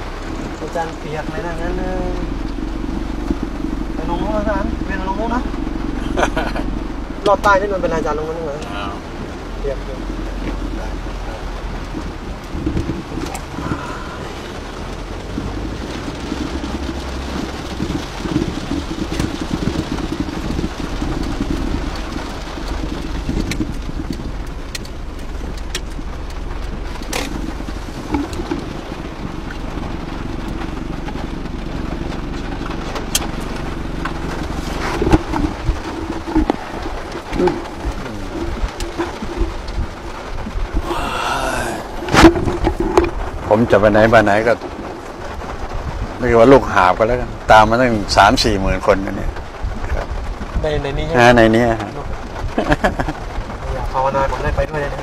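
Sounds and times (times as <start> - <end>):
vehicle engine hum and rumble: 0.0 - 55.0.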